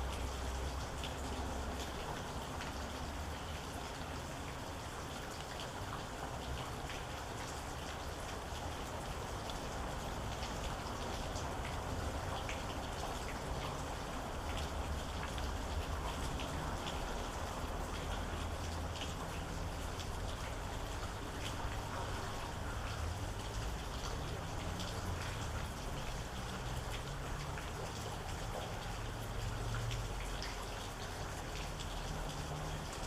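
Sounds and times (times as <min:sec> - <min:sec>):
raindrops ticking on hard surface: 0:00.0 - 0:33.0.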